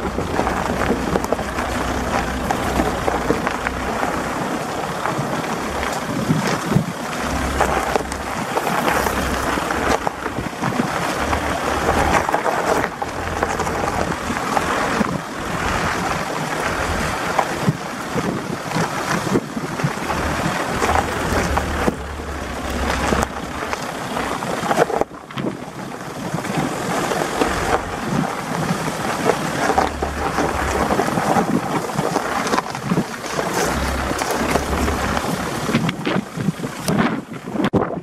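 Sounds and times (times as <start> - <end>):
tyres crackling on loose stones: 0.0 - 38.0
wind buffeting microphone: 0.0 - 38.0.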